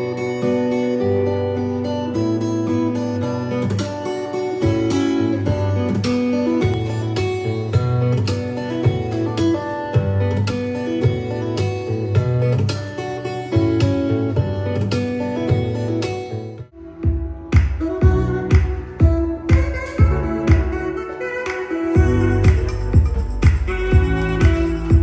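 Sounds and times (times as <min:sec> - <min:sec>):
acoustic guitar music through a speaker: 0:00.0 - 0:25.0.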